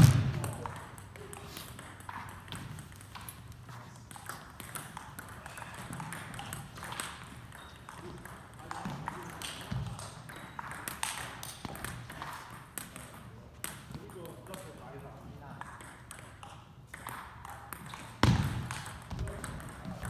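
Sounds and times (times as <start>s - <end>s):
table tennis balls bouncing: 0.0s - 20.0s.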